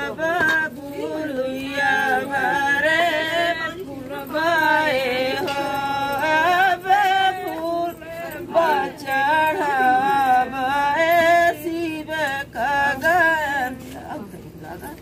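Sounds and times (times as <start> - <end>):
person singing folk song: 0.0 - 14.7.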